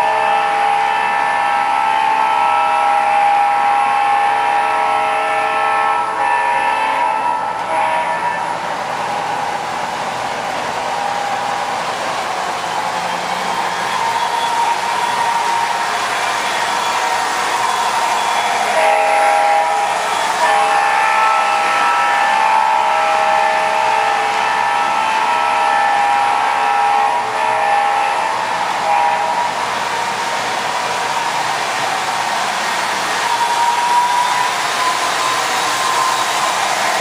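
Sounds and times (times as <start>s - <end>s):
model train diesel horn: 0.0s - 11.7s, 13.2s - 37.0s
model train running on track: 0.0s - 37.0s.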